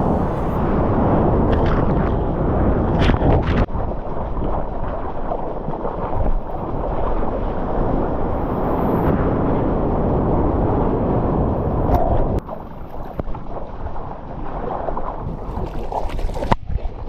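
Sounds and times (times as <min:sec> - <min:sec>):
rushing surf water: 0:00.0 - 0:17.0
wind noise on microphone: 0:00.0 - 0:17.0.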